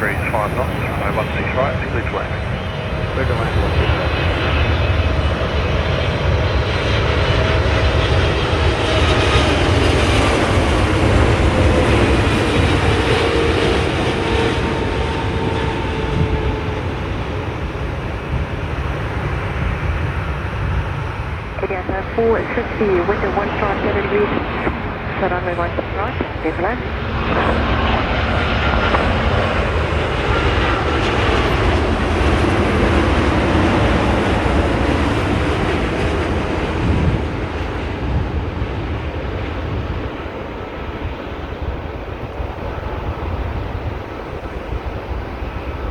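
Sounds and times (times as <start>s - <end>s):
jet airliner landing roar: 0.0s - 45.9s
jet engine whine: 0.0s - 45.9s.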